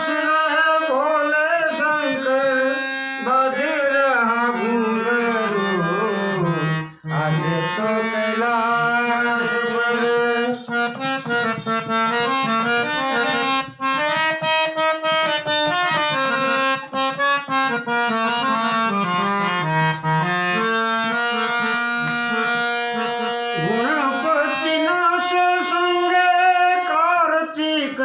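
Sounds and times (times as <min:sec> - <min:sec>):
reedy melody instrument: 0:00.0 - 0:28.0.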